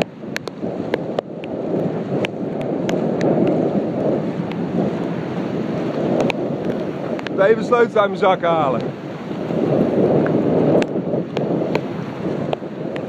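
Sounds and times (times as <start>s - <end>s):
sea surf splashing: 0.0s - 13.0s
wind buffeting microphone: 0.0s - 13.0s.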